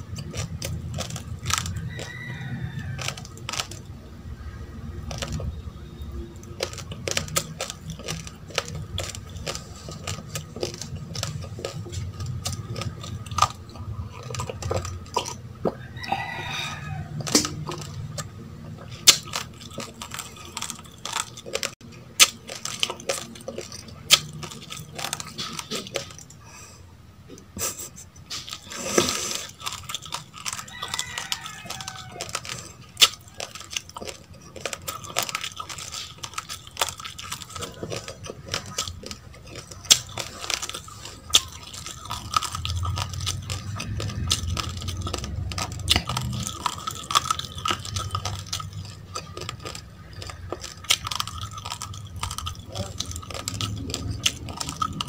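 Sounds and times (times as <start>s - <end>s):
rice grains crunching: 0.0s - 3.9s, 6.4s - 26.3s, 28.3s - 55.0s.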